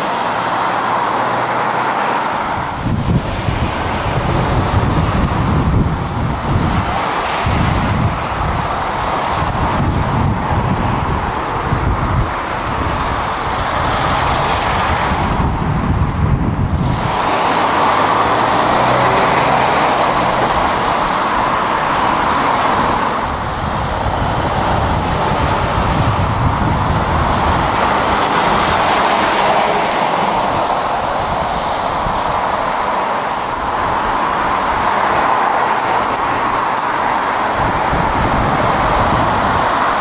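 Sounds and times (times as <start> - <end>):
diesel engines passing: 0.0 - 40.0.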